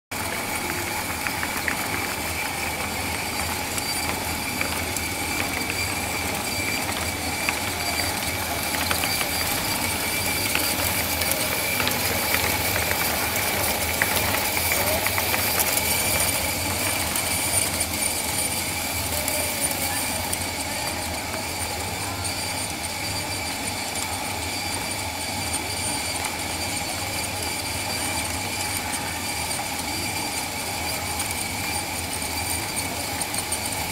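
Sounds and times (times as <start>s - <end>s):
motorised drive whirring and humming: 0.2s - 33.9s.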